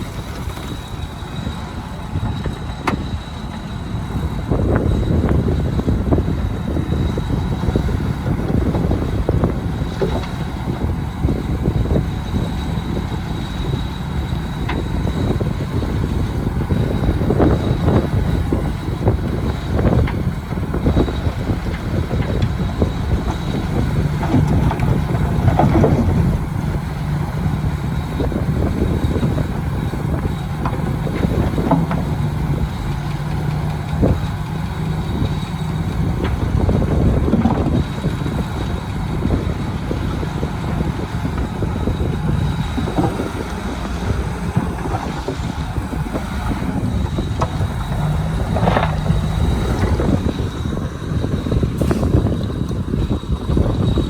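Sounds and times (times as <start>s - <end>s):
earthmoving machine diesel engine: 0.0s - 54.0s.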